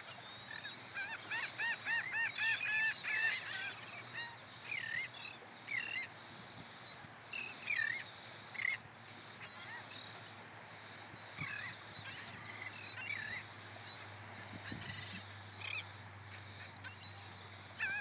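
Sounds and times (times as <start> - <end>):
seagulls calling: 0.0 - 6.2, 6.8 - 18.0
hiss of small surf: 0.0 - 18.0.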